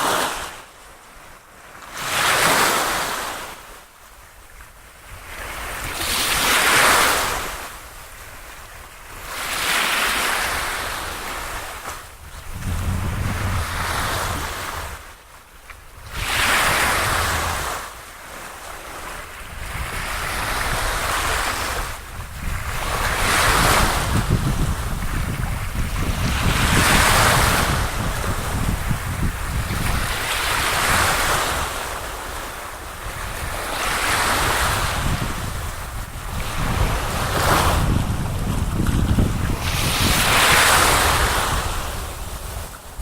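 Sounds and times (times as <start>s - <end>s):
waves washing in: 0.0s - 4.3s, 4.9s - 43.0s
wind rumbling on microphone: 4.6s - 43.0s.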